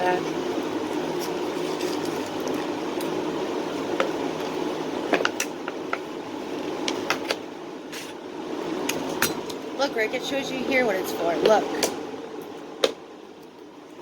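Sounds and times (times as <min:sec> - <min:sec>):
mechanical fan hum: 0:00.0 - 0:14.0.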